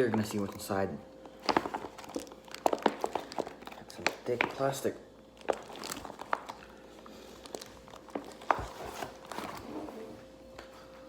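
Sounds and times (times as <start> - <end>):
plastic pouch crinkling: 0.0 - 10.2
faint steady hum: 0.0 - 11.0.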